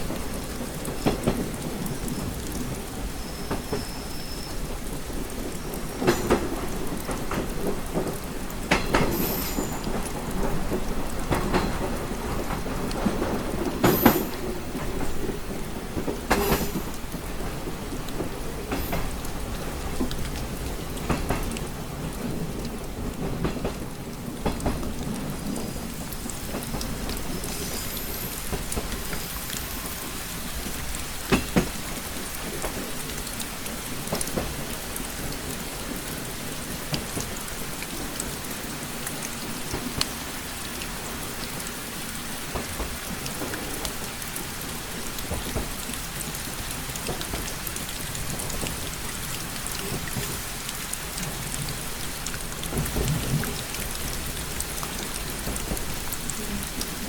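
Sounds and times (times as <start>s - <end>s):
rain tapping on window: 0.0s - 57.0s
train low rumble: 0.0s - 57.0s.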